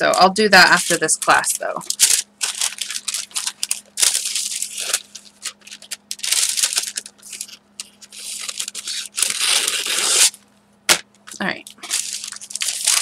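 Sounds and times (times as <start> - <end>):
paper crinkling and rustling: 0.0 - 10.4, 11.3 - 13.0.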